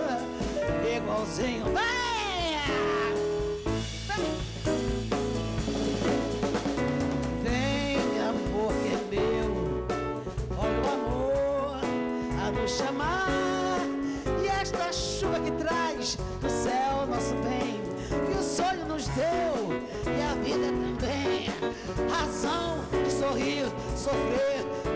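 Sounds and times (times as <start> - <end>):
woman singing into a microphone: 0.0 - 3.3, 7.4 - 10.0, 10.6 - 24.9
live band playing: 0.0 - 24.9.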